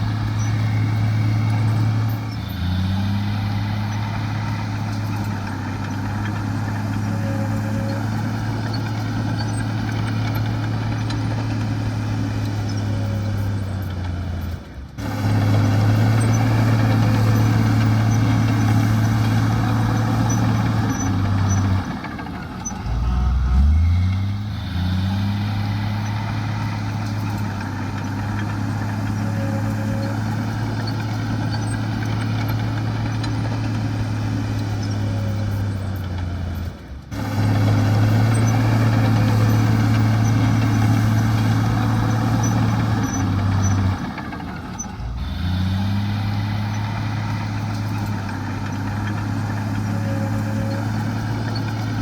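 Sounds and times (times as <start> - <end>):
heavy diesel engine revving: 0.0 - 52.0.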